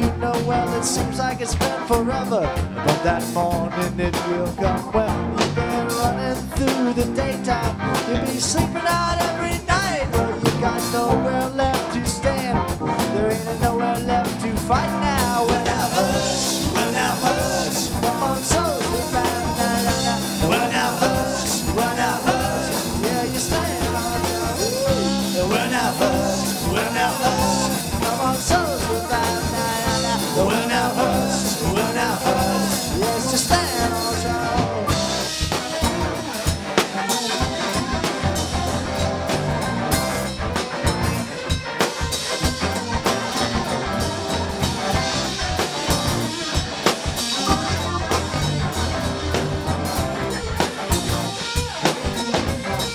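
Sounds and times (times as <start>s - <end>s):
bass guitar: 0.0s - 52.9s
drum kit: 0.0s - 52.9s
electric guitars: 0.0s - 52.9s
keyboards: 0.0s - 52.9s.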